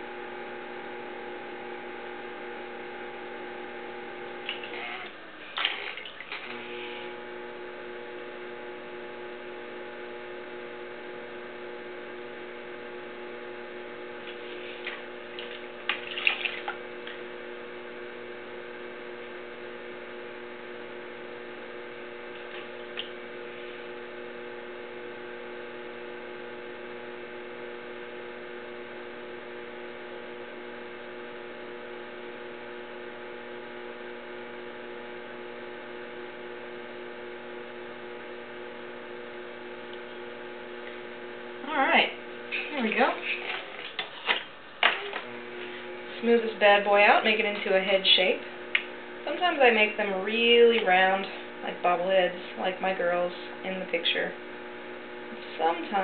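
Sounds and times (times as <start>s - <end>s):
potter's wheel motor humming: 0.0s - 56.0s.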